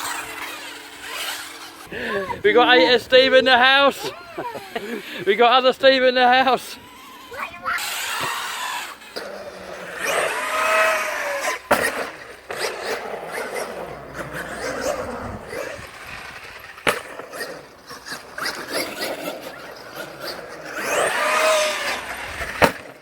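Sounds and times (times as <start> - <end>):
rc car motor whining: 0.0 - 23.0.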